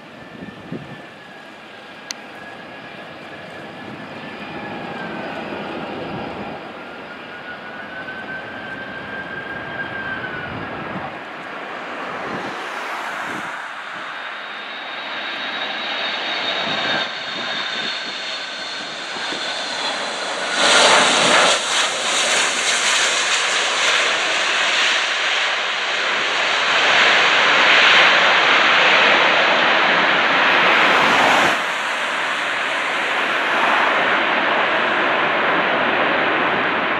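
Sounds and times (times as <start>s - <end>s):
jet engine whine: 0.0s - 36.9s.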